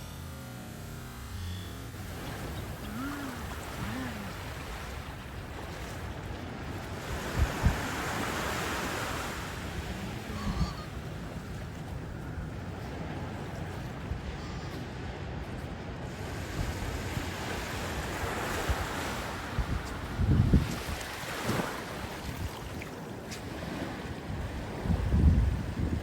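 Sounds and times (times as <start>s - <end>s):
waves washing onto beach: 1.9s - 26.0s.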